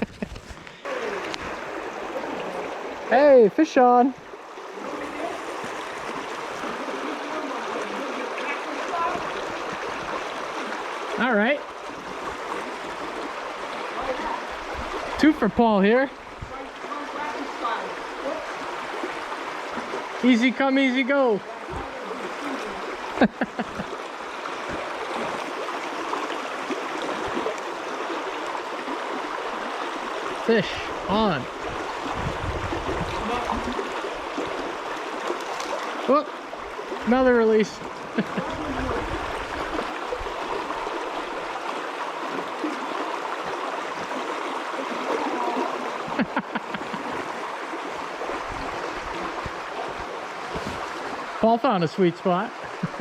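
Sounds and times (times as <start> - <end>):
river water rushing over rocks: 0.3 - 53.0.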